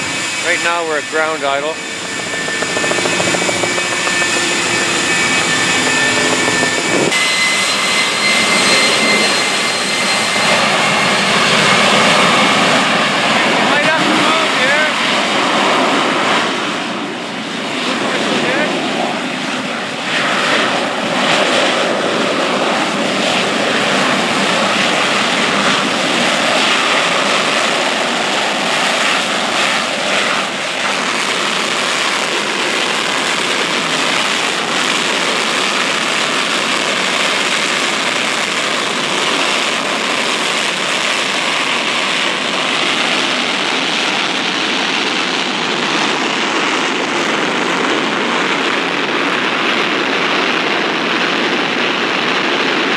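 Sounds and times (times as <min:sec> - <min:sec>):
jet engine roaring: 0:00.0 - 0:52.9.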